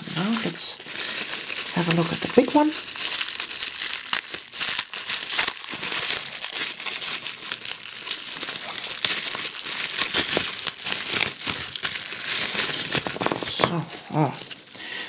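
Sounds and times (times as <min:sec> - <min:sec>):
bubble wrap crinkling: 0:00.0 - 0:14.8.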